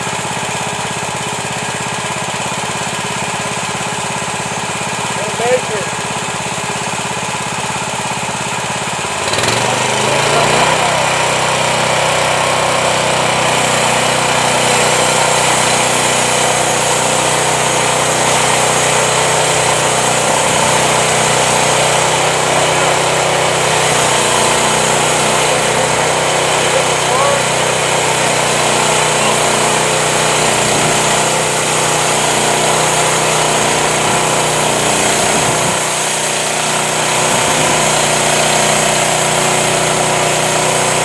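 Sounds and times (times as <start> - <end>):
small sawmill engine revving: 0.0 - 41.0.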